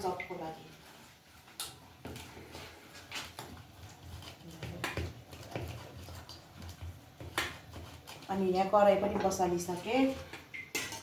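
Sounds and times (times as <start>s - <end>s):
batter being mixed by hand: 0.0s - 11.0s.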